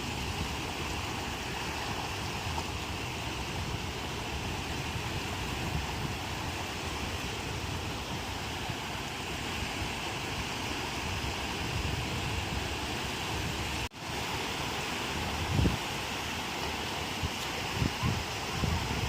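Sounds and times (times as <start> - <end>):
ocean surf breaking on shore: 0.0 - 19.0.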